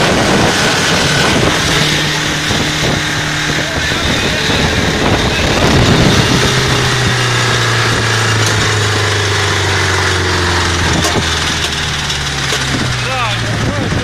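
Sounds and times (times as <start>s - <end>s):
tractor diesel engine drone: 0.0s - 14.0s.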